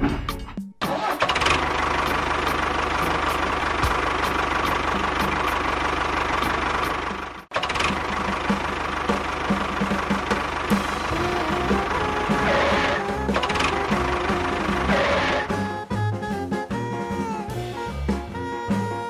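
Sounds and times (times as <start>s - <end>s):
small engine running with ticking: 1.0s - 17.6s.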